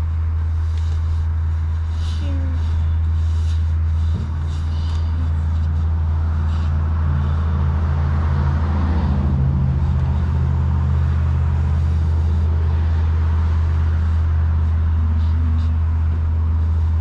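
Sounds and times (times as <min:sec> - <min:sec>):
car passing: 0:00.0 - 0:17.0
traffic hum: 0:00.0 - 0:17.0.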